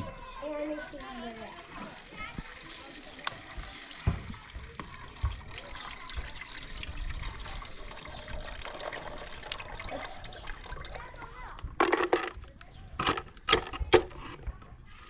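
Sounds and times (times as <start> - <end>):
running water trickling: 0.0 - 15.0.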